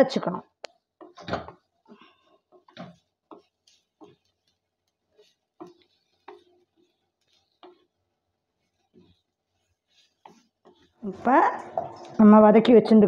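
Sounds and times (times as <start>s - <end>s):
wooden spatula scraping a pan: 0.7s - 12.4s.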